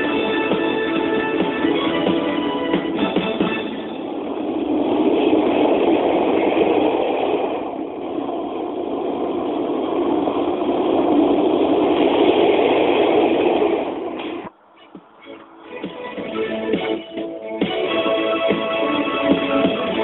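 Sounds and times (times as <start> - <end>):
steam locomotive roar: 0.0 - 20.0.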